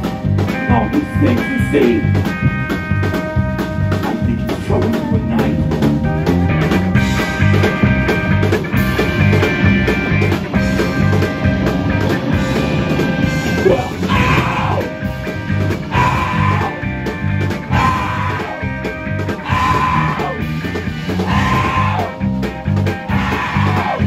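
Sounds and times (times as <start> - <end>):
drum kit beat: 0.0 - 24.0
electric guitar: 0.0 - 24.0
pedal steel guitar: 0.0 - 24.0
upright bass: 0.0 - 24.0.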